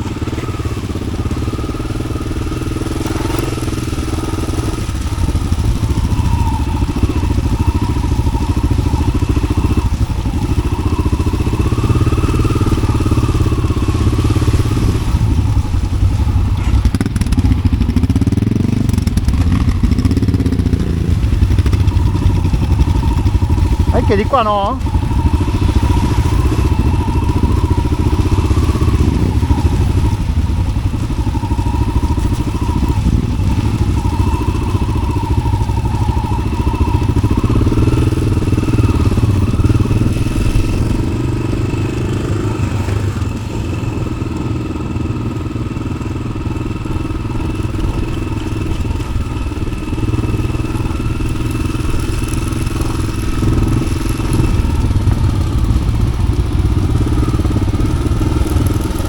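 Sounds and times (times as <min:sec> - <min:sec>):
engine knocks: 0:00.0 - 0:59.0
motorcycle engine running: 0:00.0 - 0:59.0.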